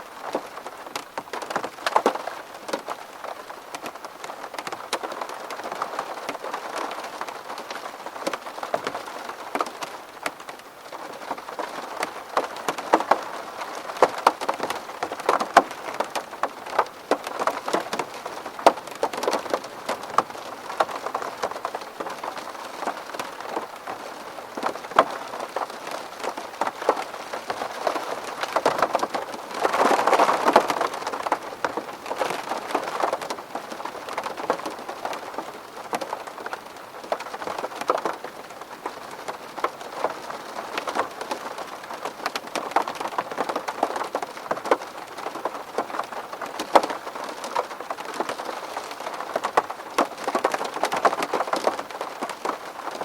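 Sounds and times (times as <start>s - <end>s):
rain pattering on window glass: 0.0s - 53.0s.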